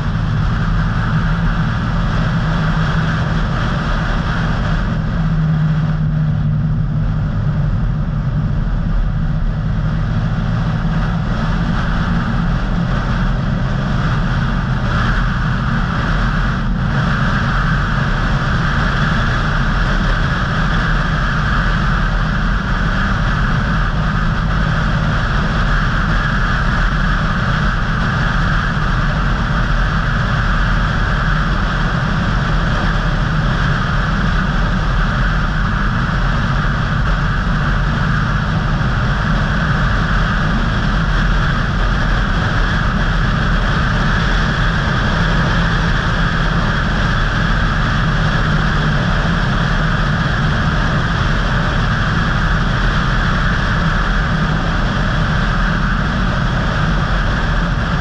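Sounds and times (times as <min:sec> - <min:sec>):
car road noise from inside: 0:00.0 - 0:58.0.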